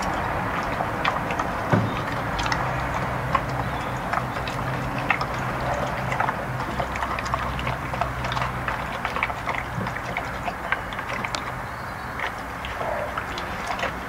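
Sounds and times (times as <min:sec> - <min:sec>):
dog chewing and smacking: 0:00.0 - 0:14.0.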